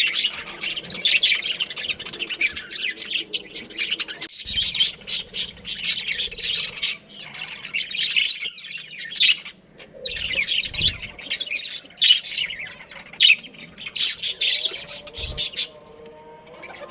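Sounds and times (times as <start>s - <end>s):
budgerigars chirping: 0.0s - 16.9s.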